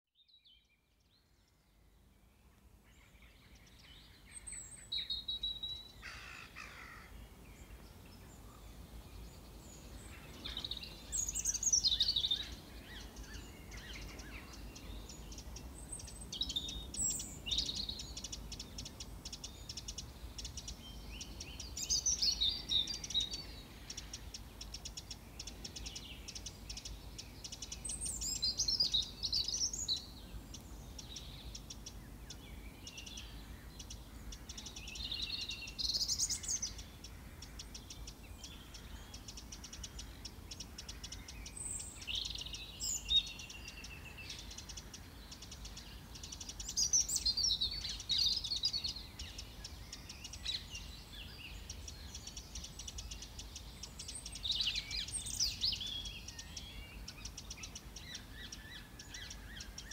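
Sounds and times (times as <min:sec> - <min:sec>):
songbirds singing and chirping: 0:00.1 - 0:59.9
rapid ticking bird calls: 0:03.6 - 0:07.8, 0:09.8 - 0:59.9.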